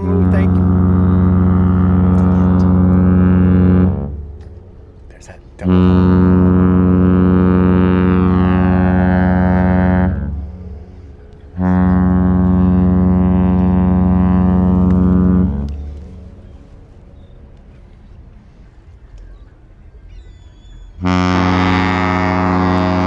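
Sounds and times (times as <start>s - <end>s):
ship horn deep blasts: 0.0s - 18.9s, 20.9s - 23.0s.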